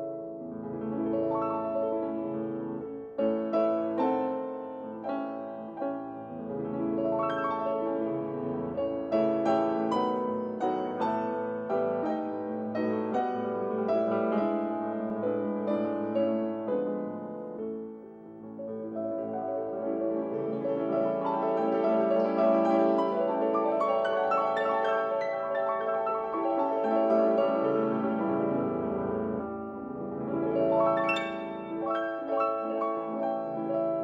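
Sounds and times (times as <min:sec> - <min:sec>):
slow solo piano music: 0:00.0 - 0:34.0.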